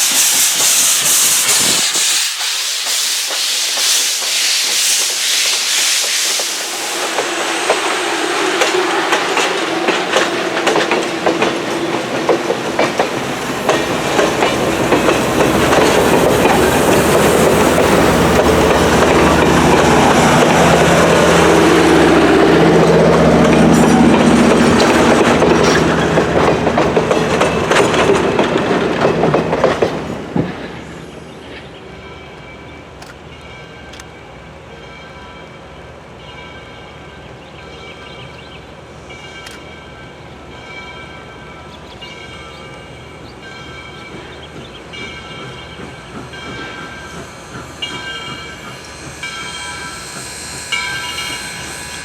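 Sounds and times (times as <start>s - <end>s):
train wheels clacking on rails: 0.0s - 34.2s, 40.5s - 52.0s.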